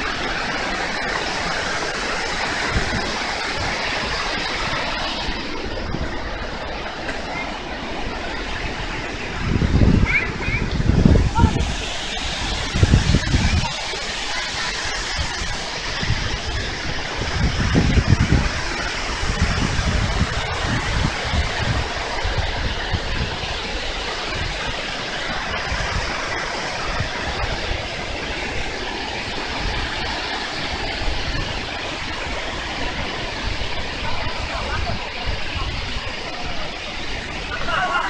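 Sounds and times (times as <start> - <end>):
low rumbles: 0.0 - 38.0
waterfall rushing: 0.0 - 38.0.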